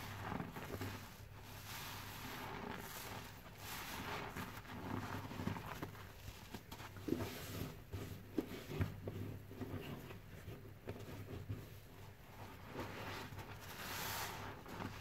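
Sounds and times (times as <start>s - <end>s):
sponge squelching in suds: 0.0s - 15.0s.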